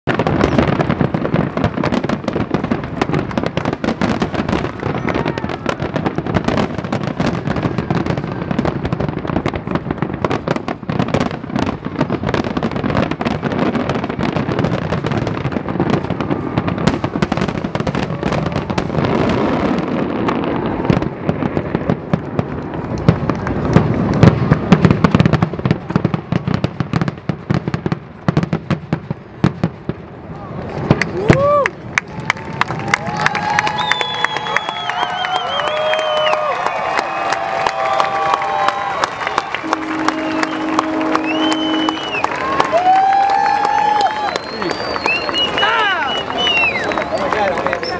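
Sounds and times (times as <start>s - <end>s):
fireworks bursting and crackling: 0.0s - 47.9s.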